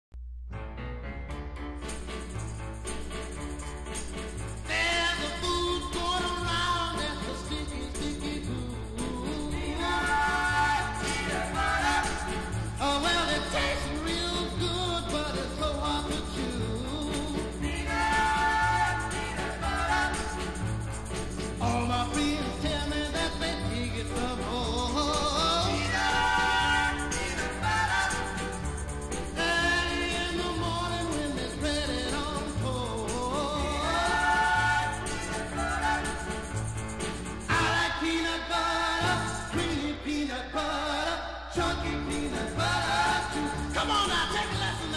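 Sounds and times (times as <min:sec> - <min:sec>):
song with singing voice: 0:04.5 - 0:44.9.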